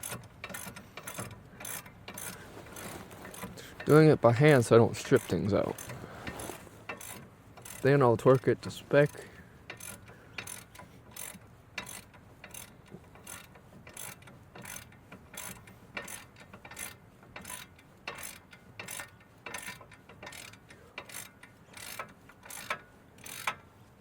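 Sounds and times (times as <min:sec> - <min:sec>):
ratchet wrench clicking: 0:00.0 - 0:04.0, 0:05.1 - 0:08.5, 0:09.1 - 0:23.6.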